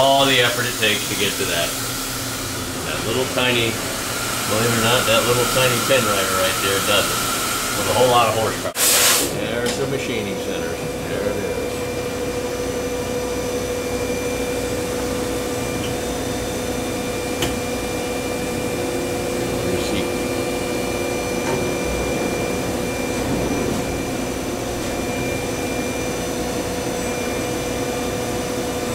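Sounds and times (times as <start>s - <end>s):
machinery hum and whine: 0.0s - 28.9s.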